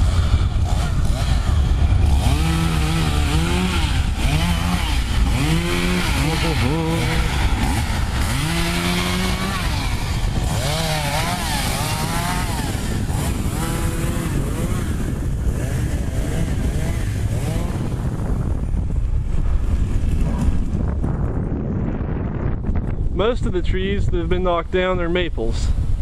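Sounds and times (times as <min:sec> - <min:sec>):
small engine revving: 0:00.0 - 0:22.6
wind buffeting microphone: 0:00.0 - 0:26.0.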